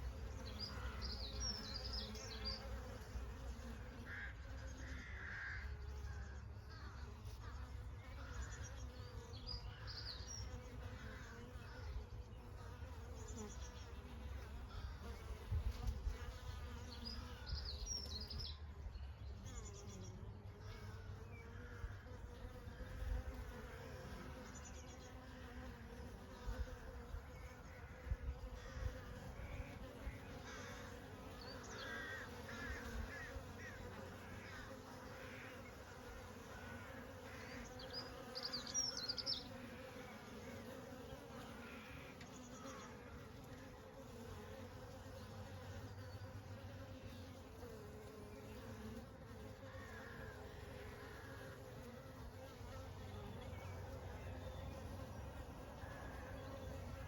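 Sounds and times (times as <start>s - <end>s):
honey bees buzzing: 0.0s - 57.0s.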